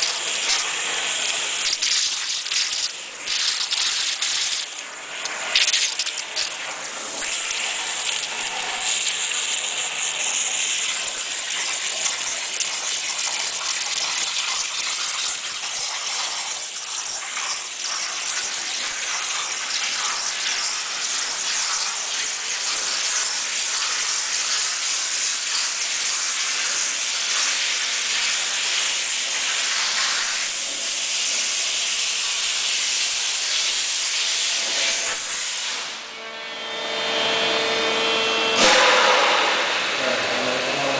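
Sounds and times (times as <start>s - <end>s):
water jet hissing: 0.0s - 36.0s, 38.6s - 40.9s.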